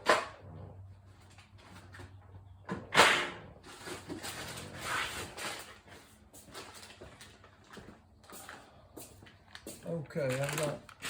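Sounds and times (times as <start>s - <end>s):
parts rattling and scraping: 0.0s - 8.6s, 9.7s - 11.0s.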